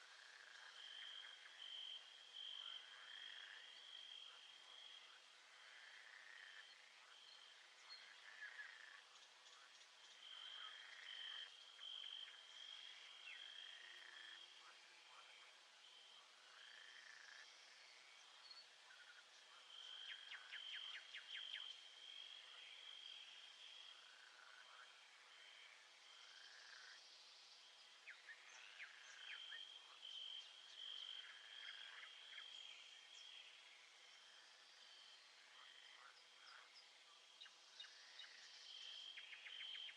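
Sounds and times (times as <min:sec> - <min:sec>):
high trill of frogs and insects: 0:00.0 - 0:39.9.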